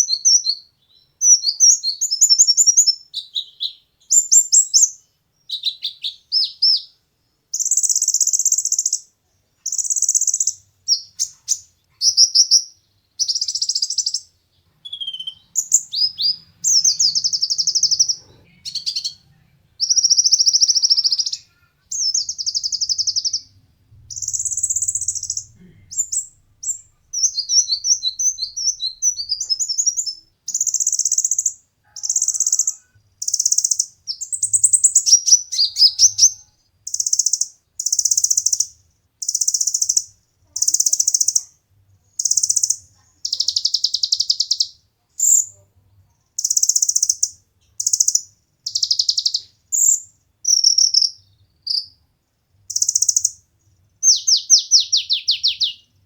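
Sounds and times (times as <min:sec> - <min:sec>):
sunbird trilling song: 0:00.0 - 0:19.2, 0:19.8 - 0:45.6, 0:46.4 - 0:52.0, 0:52.7 - 0:53.4, 0:54.0 - 0:56.0.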